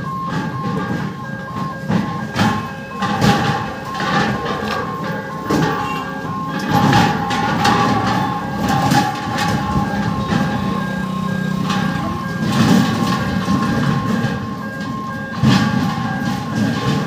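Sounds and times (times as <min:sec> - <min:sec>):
car engines passing: 0:00.0 - 0:17.0
electronic beeping: 0:01.2 - 0:17.0
motorcycle engines passing: 0:02.2 - 0:17.0.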